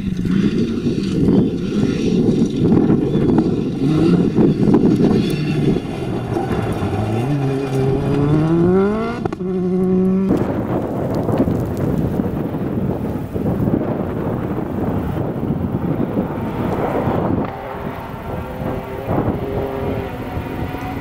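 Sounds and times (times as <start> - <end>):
rally car engine at high revs: 0.0 - 21.0
tyres rumbling on gravel: 0.0 - 21.0
wind noise on microphone: 0.0 - 21.0.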